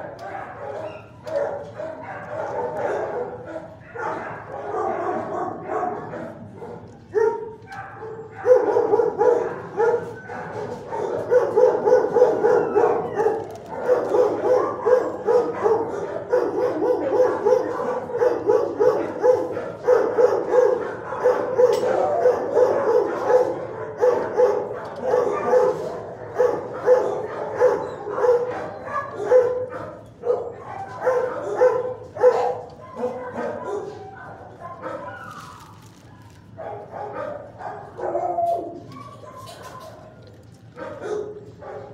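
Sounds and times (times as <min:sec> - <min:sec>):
dogs barking: 0:00.0 - 0:41.9.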